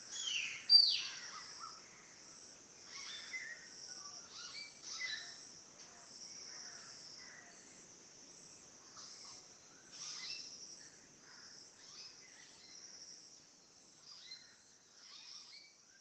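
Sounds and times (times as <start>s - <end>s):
faint high-pitched birdsong: 0.0s - 16.0s.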